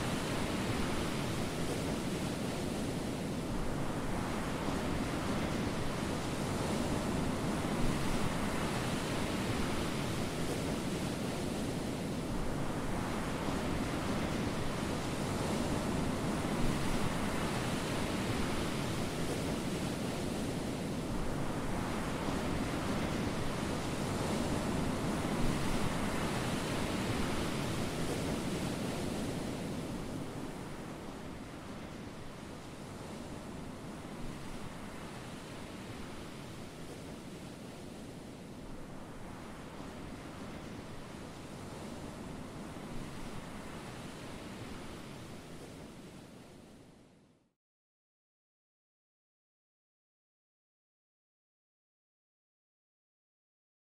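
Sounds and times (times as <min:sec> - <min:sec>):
ocean surf washing onto beach: 0:00.0 - 0:46.7.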